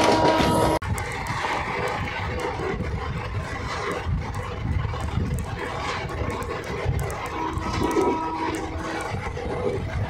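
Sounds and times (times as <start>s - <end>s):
train wheels rumbling on track: 0.0s - 10.0s
wind blowing across microphone: 0.0s - 10.0s.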